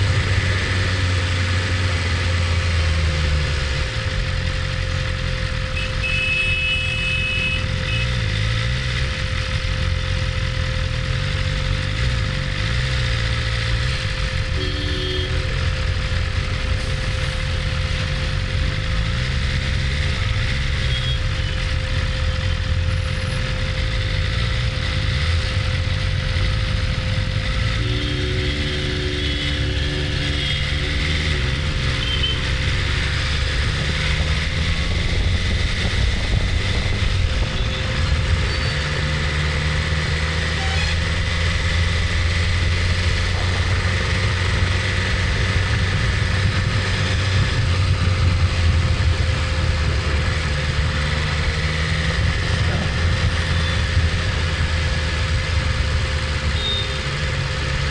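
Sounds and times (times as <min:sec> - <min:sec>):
motorcycle engine at low revs: 0:00.0 - 0:57.9.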